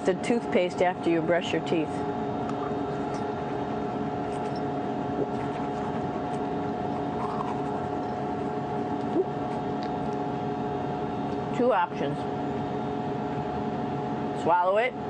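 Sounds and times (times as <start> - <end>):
ventilation fans droning: 0.0 - 15.0.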